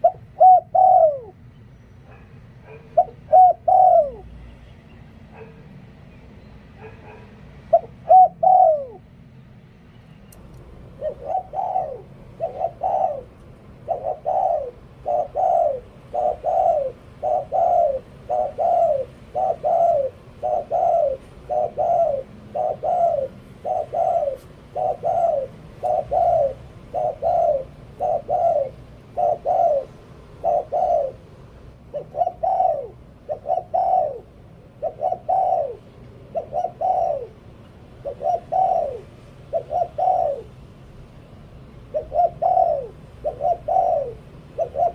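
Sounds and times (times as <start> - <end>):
dove cooing: 0.0 - 4.4, 6.8 - 9.2, 10.4 - 44.9.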